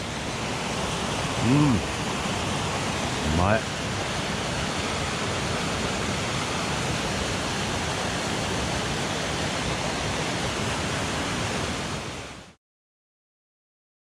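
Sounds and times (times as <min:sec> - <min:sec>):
stream rushing over rocks: 0:00.0 - 0:12.6.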